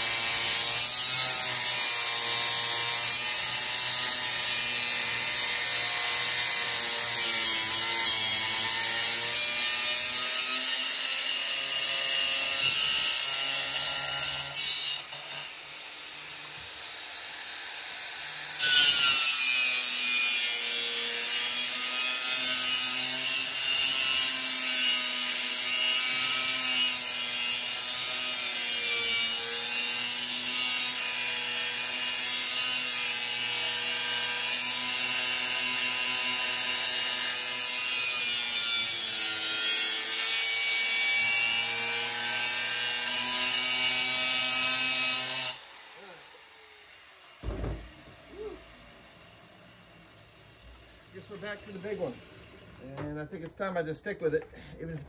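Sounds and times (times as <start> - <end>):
angle grinder cutting metal: 0.0 - 52.8.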